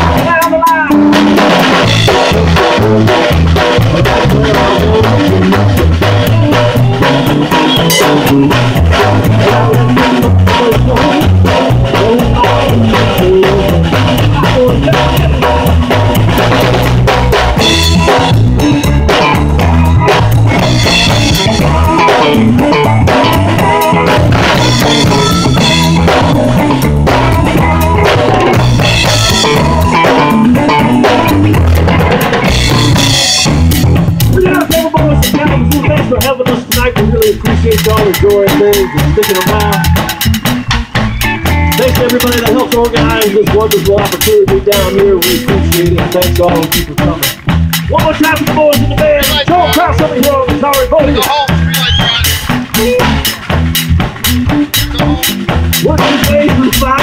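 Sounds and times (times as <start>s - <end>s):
drums and cymbals: 0.0s - 57.0s
electric guitar: 0.0s - 57.0s.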